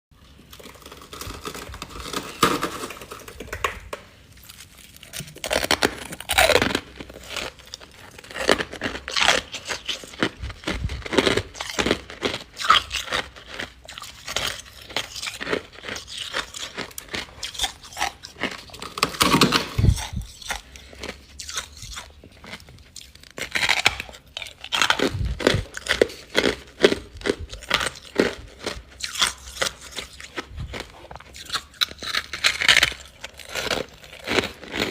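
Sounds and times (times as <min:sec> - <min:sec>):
chewing crunchy frost: 0:04.2 - 0:34.9.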